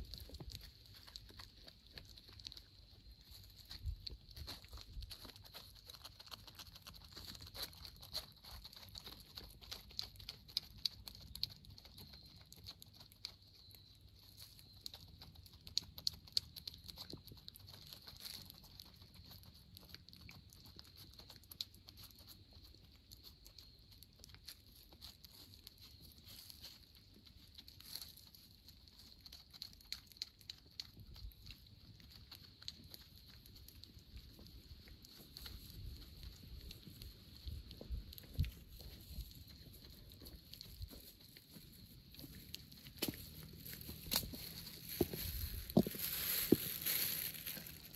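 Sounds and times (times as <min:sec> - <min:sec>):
cat chewing and licking: 0:00.0 - 0:47.9.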